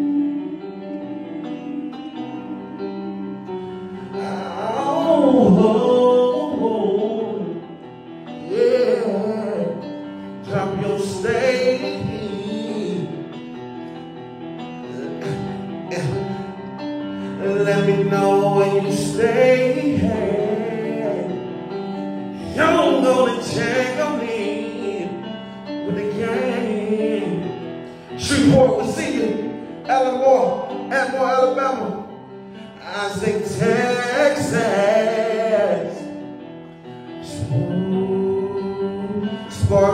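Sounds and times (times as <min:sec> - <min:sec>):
backing music: 0:00.0 - 0:39.9
man singing: 0:04.0 - 0:13.5, 0:14.7 - 0:36.2, 0:37.2 - 0:39.9.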